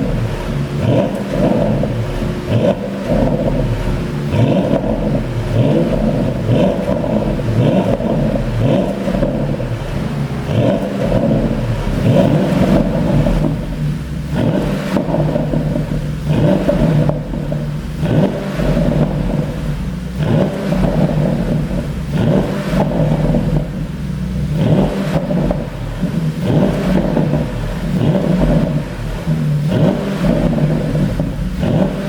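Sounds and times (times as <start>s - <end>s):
car engine revving: 0.0s - 32.0s
exhaust pops and crackles: 0.0s - 32.0s.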